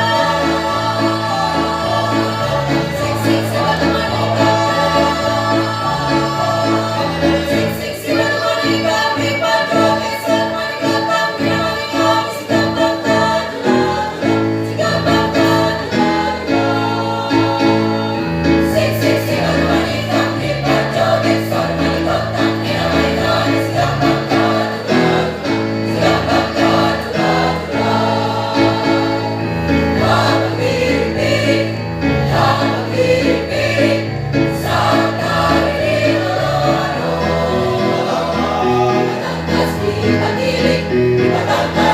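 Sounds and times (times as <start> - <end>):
choir singing in parts: 0.0 - 41.9
instrumental accompaniment: 0.0 - 41.9.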